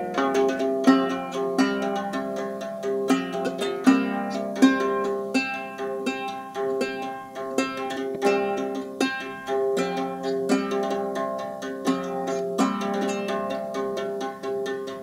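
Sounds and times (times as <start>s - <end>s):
harp plucked: 0.0s - 15.0s.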